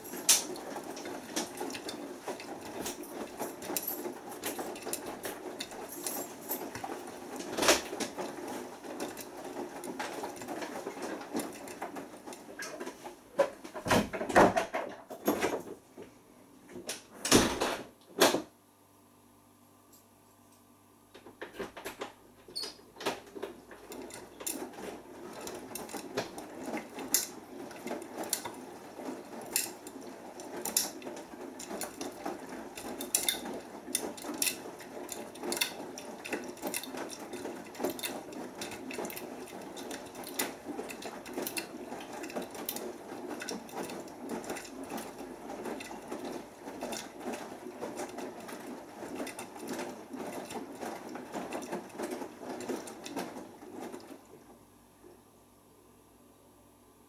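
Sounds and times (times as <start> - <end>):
washing machine drum tumbling: 0.0 - 15.7, 21.3 - 54.4.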